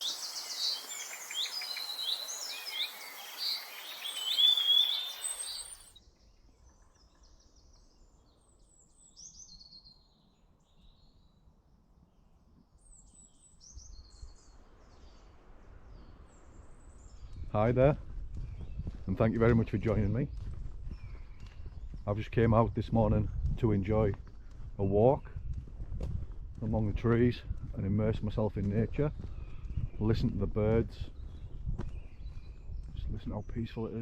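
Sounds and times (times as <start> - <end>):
birds singing and calling: 0.0 - 11.3, 12.8 - 25.7, 26.6 - 34.0.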